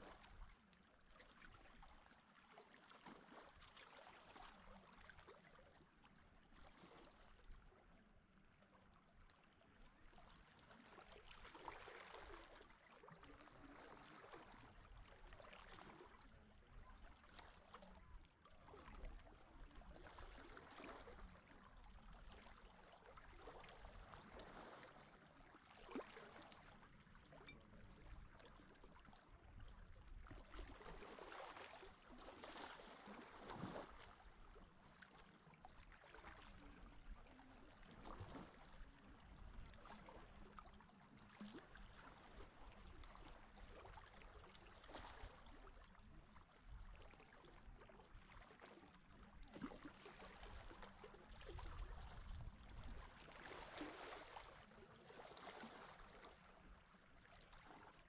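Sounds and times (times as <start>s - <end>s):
small water splashes: 0.0s - 7.8s, 9.2s - 58.0s
water lapping at shore: 0.0s - 58.0s.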